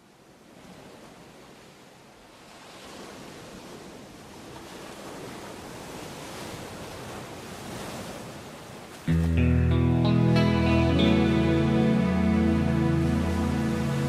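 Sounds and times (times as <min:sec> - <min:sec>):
ocean surf rushing: 0:02.4 - 0:14.0.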